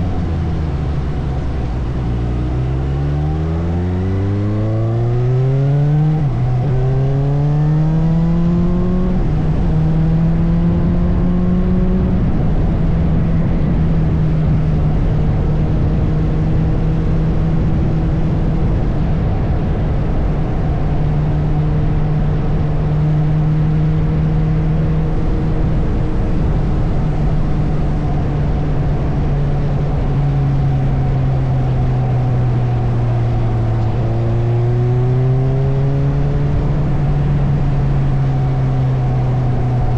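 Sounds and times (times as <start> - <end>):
motorcycle engine revving: 0.0 - 19.1, 21.4 - 39.9
wind noise: 0.0 - 39.9.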